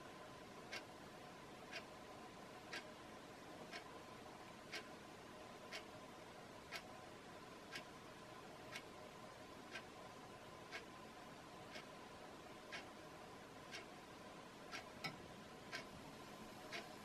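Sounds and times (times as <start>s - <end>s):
faint steady hum: 0.0s - 17.0s
faint sharp clock-like ticks: 0.5s - 17.0s.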